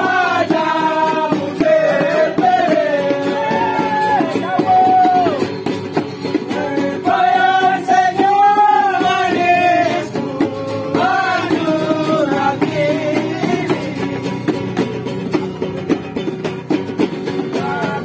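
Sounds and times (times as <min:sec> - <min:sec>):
men singing: 0:00.0 - 0:05.5, 0:06.3 - 0:15.0, 0:17.4 - 0:18.0
strummed acoustic guitars: 0:00.0 - 0:18.0.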